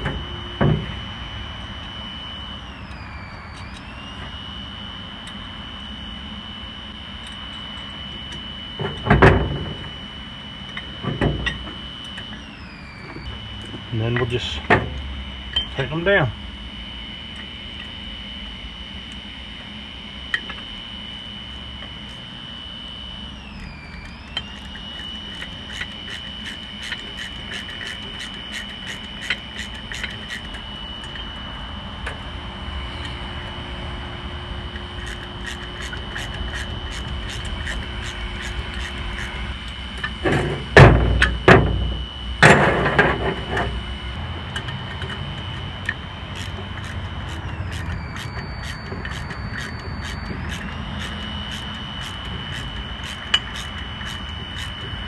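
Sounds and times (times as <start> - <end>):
pressure washer whine: 0.0 - 55.0.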